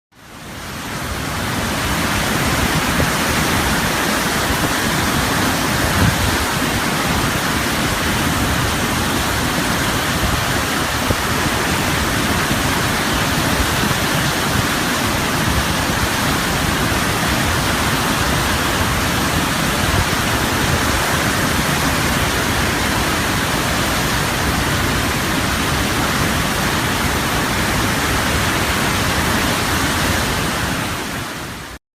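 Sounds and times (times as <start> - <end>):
ocean waves breaking: 0.2 - 31.8.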